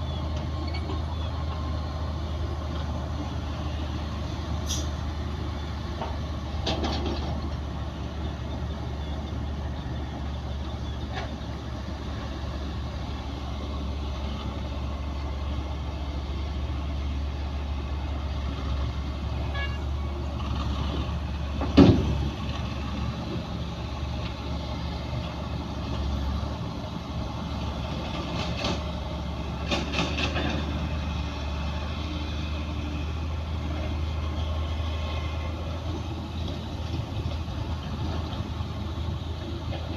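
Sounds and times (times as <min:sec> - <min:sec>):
diesel machinery rumbling: 0:00.0 - 0:39.9.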